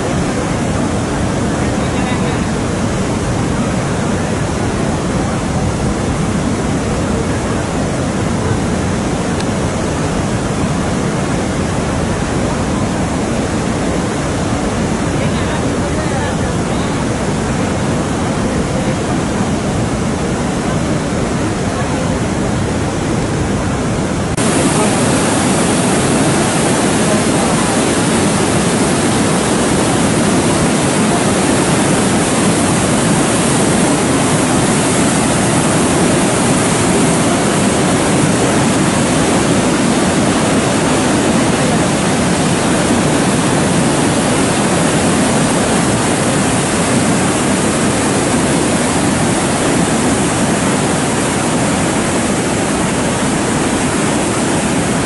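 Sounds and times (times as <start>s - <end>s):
water rushing over weir: 0.0s - 55.0s.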